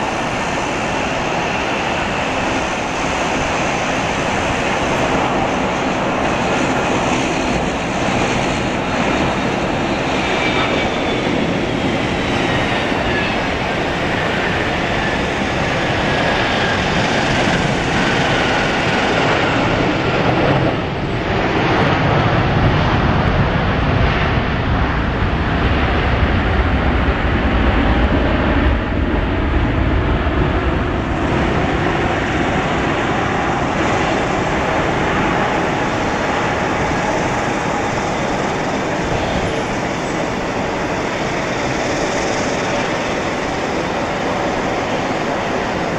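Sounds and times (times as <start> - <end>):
jet engine deep rumble: 0.0 - 45.9
jet engine whine: 0.0 - 45.9.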